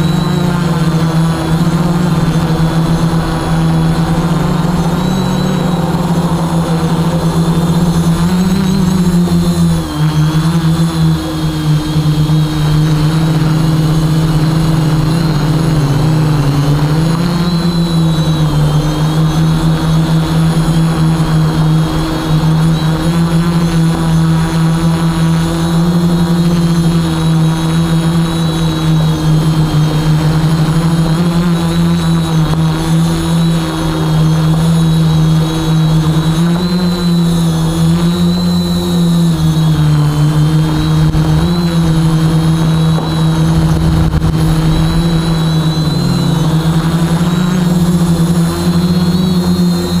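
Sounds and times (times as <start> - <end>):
drone propellers whirring: 0.0 - 50.0.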